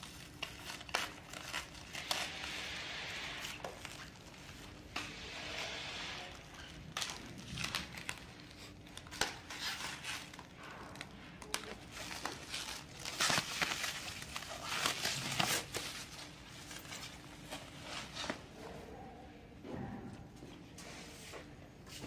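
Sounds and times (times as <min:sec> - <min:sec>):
plastic wrap crinkling and tearing: 0:00.0 - 0:18.4.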